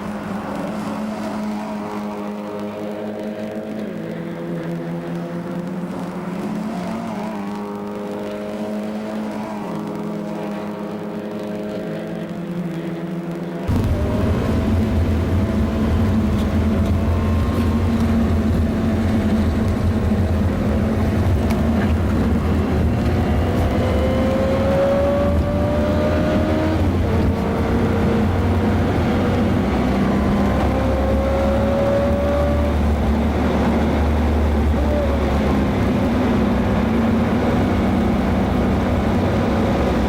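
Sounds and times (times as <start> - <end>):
race car engine accelerating: 0.0 - 40.0.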